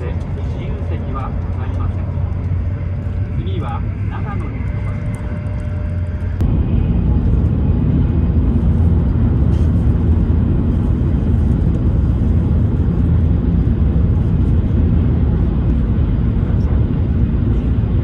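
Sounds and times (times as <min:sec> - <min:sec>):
train rumble from inside cabin: 0:00.0 - 0:18.0.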